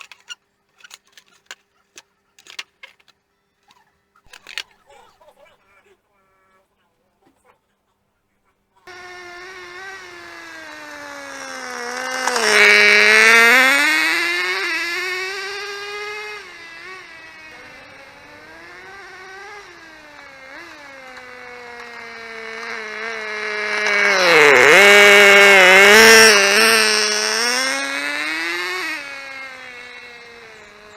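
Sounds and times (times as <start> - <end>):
rc car engine running: 0.0 - 4.8, 8.9 - 30.9.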